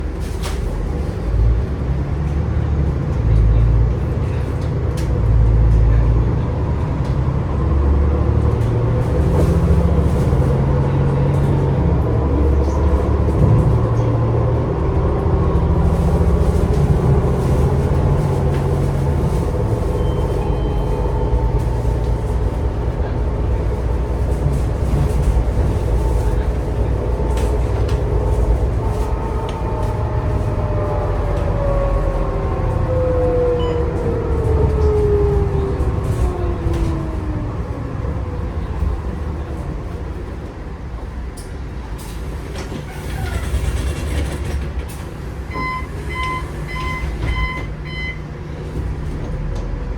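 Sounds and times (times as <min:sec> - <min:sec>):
bus engine drone: 0:00.0 - 0:49.9.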